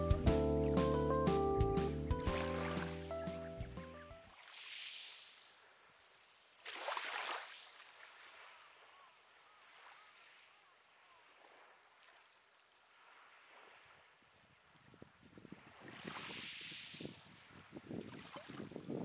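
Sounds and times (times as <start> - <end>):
small waves washing in: 2.2 - 19.0.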